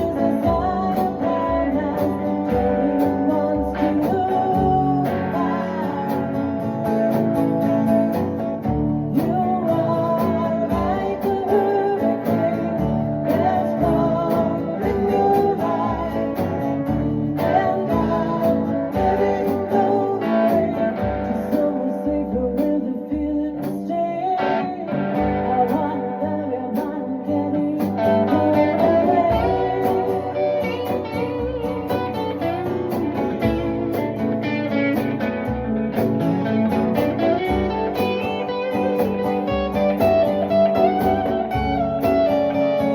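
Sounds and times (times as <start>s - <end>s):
plucked guitar music: 0.0s - 42.9s.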